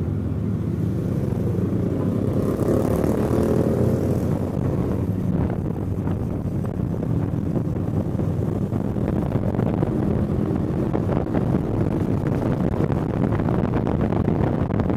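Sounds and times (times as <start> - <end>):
motorcycle engine running: 0.0 - 14.9
road and wind noise: 0.0 - 14.9.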